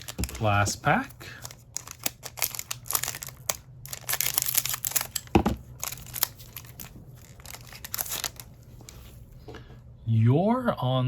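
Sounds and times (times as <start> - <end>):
wrapper crinkling and tearing: 0.0 - 9.0.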